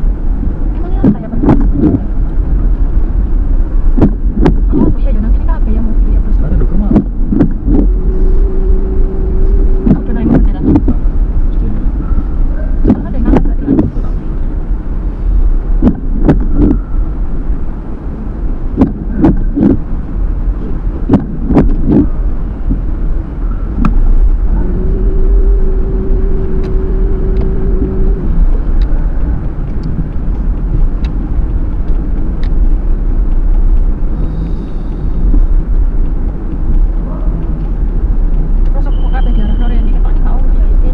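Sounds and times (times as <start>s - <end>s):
car engine and tyres rumbling: 0.0s - 40.9s
steady hum: 0.0s - 40.9s.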